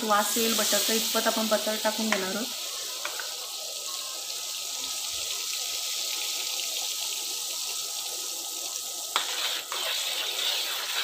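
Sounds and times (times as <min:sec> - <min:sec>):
butter sizzling in hot oil: 0:00.0 - 0:11.0.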